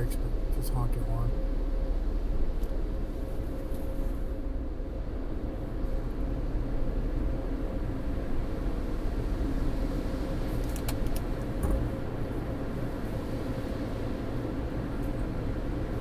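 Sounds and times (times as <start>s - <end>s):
car wash machinery rumble: 0.0s - 16.0s.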